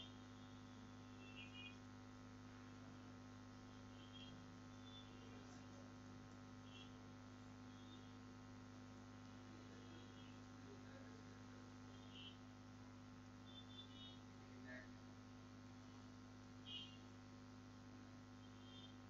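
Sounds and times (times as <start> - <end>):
low electrical mains hum: 0.0 - 19.0.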